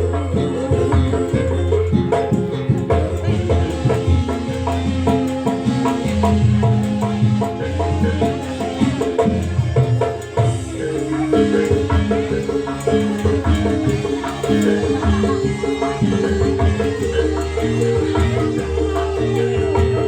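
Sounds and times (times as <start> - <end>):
hand drum beats: 0.0 - 20.0
metal mallet instruments melody: 0.0 - 20.0.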